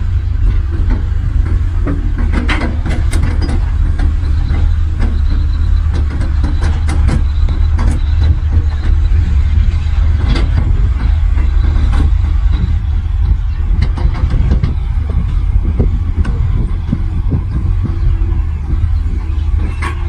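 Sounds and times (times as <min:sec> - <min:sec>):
diesel engine deep rumble: 0:00.0 - 0:20.0
knocks and clanks: 0:00.0 - 0:20.0.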